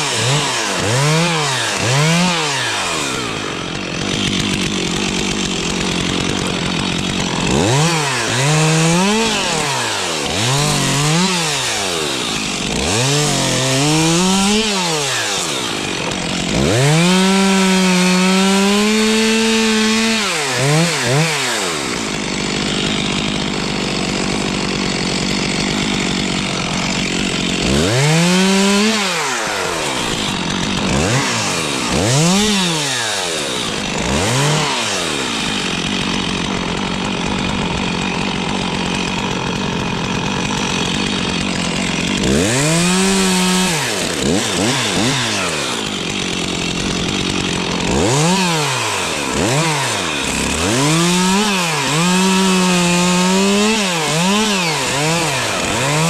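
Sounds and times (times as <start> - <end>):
chainsaw revving and cutting wood: 0.0 - 56.0.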